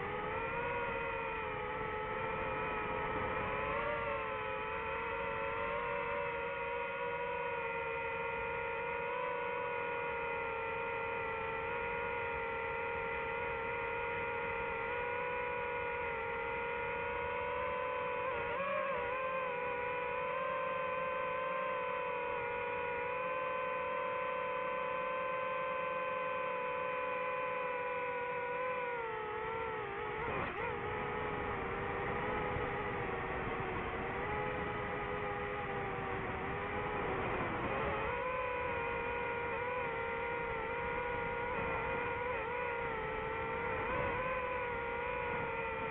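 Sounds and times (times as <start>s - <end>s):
drone propellers whining: 0.0s - 45.9s.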